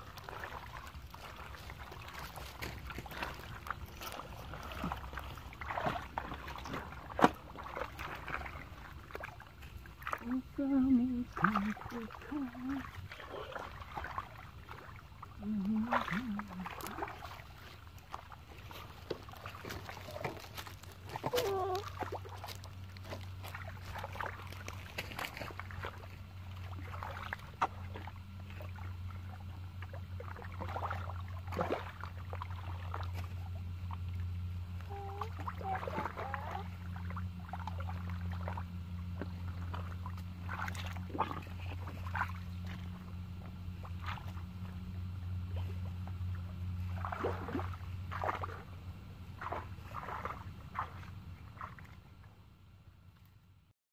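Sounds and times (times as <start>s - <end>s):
steady low hum: 0.0s - 53.7s
wading in muddy water: 0.0s - 53.7s.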